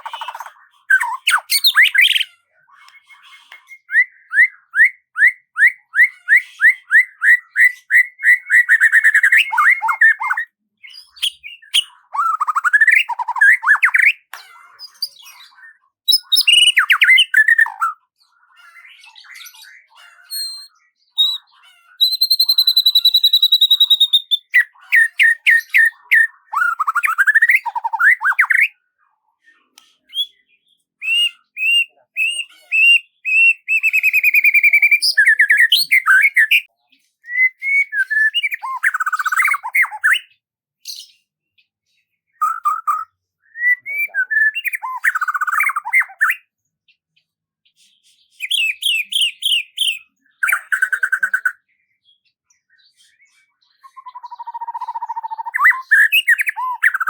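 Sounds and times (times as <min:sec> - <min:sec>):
birds singing and calling: 0:00.0 - 0:57.0.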